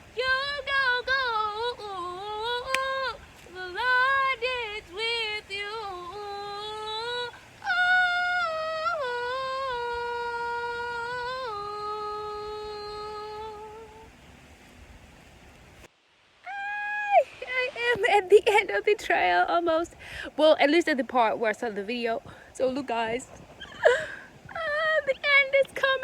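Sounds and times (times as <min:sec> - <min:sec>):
woman singing unaccompanied: 0:00.0 - 0:14.2, 0:16.5 - 0:26.0.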